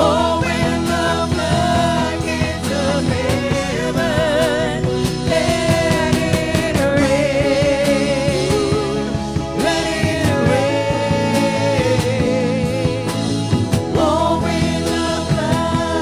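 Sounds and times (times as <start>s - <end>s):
worship band playing: 0.0s - 16.0s.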